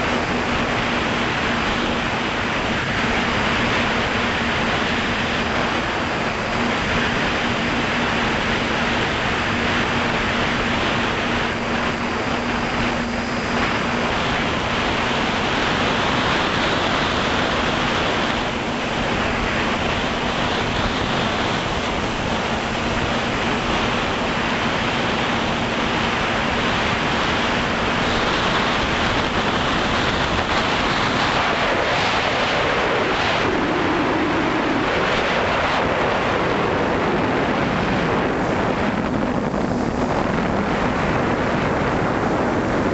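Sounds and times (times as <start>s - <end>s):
faint drone motor hum: 0.0s - 34.6s
wind rush hiss: 0.0s - 42.9s.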